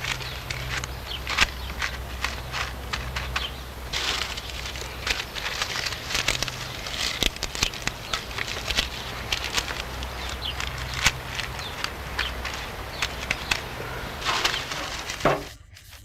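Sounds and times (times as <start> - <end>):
tapping and scraping: 0.0 - 15.6
low steady hum: 0.0 - 15.7.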